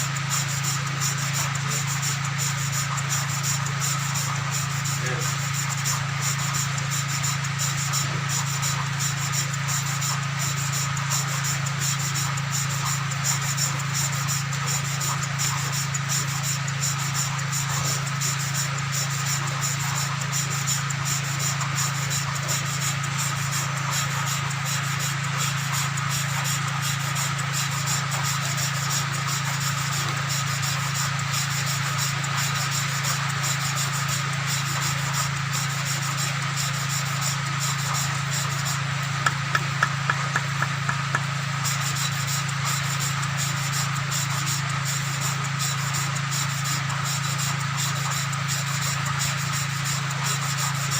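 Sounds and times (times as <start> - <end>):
constant low hum: 0.0 - 50.9
gritty rubbing of valve lapping: 0.2 - 50.9.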